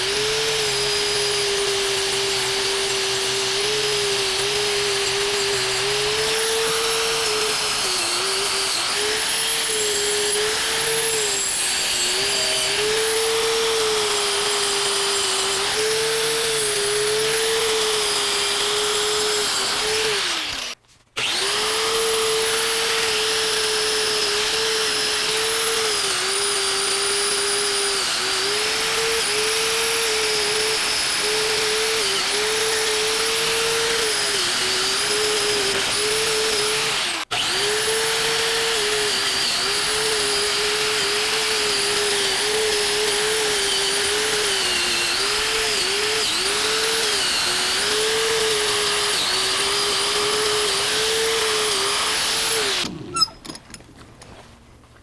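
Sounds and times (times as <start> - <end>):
wire brush whining on steel: 0.0 - 53.8.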